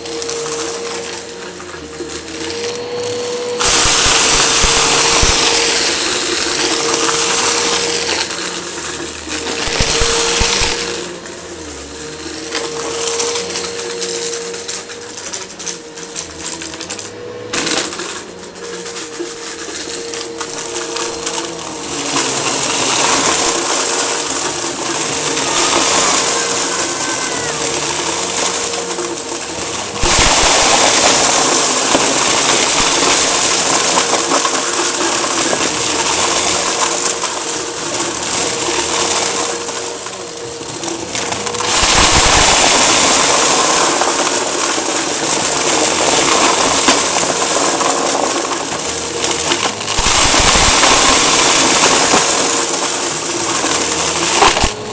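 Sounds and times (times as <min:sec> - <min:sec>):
debris crackling through vacuum: 0:00.0 - 0:54.9
vacuum cleaner motor hum: 0:00.0 - 0:54.9.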